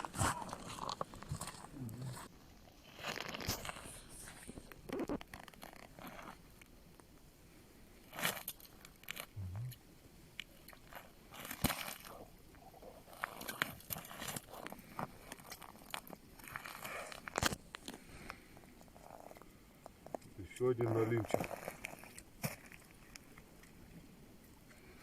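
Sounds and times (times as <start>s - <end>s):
faint crunches and rustles: 0.0s - 7.2s, 8.0s - 9.4s, 10.3s - 25.0s.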